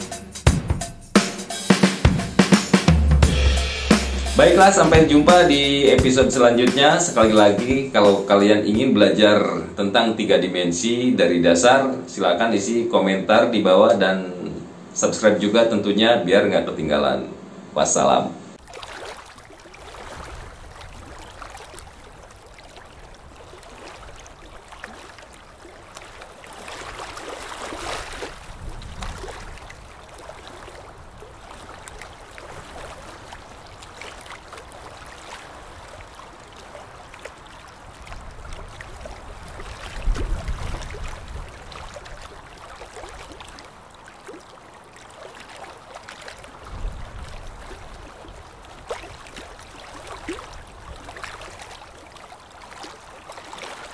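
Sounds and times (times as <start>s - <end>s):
running water: 1.6s - 17.2s, 17.8s - 53.9s.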